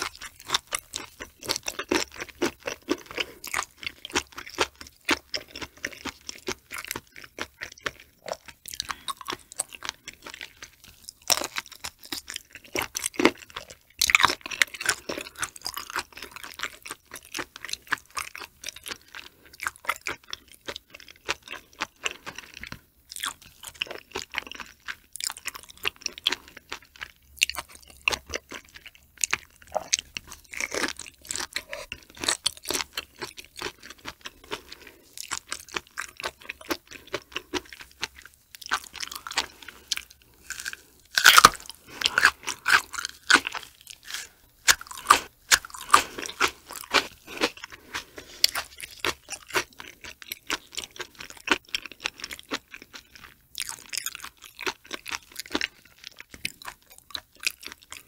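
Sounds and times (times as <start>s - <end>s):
wet crunchy chewing: 0.0s - 58.0s.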